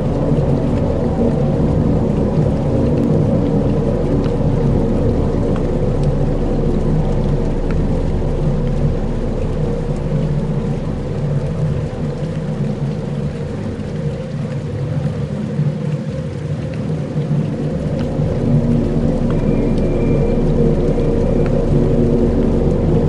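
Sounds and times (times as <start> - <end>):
low drones: 0.0 - 23.0
rain-like hiss and rumble: 0.0 - 23.0.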